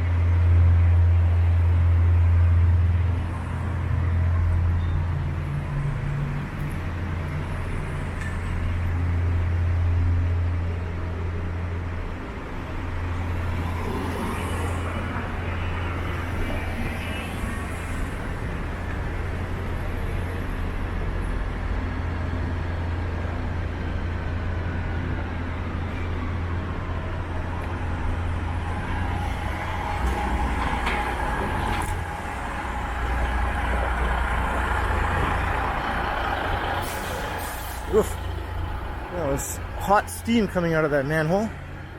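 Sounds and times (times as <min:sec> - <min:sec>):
road noise: 0:00.0 - 0:41.9
vehicle engines humming: 0:00.0 - 0:41.9.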